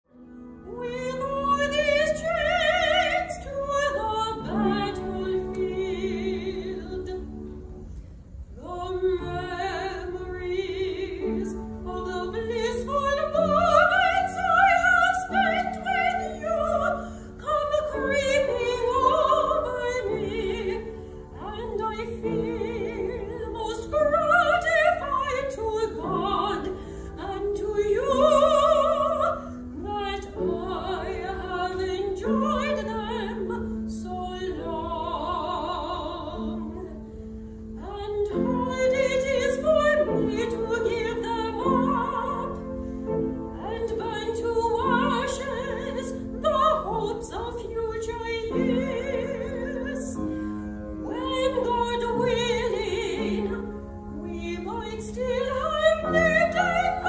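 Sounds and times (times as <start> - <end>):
piano accompaniment: 0.0 - 57.0
woman singing opera: 0.6 - 7.7, 8.6 - 57.0.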